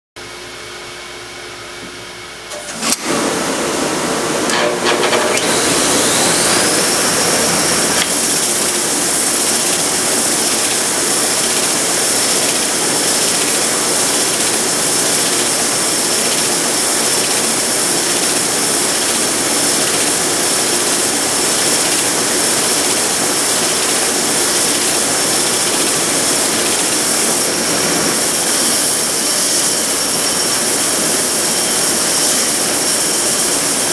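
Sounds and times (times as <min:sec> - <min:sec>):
belt sander whine: 0:00.5 - 0:33.9.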